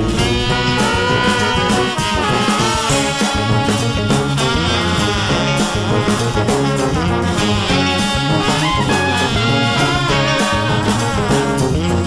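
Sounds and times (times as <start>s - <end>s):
swing jazz with brass horns: 0.0s - 12.0s.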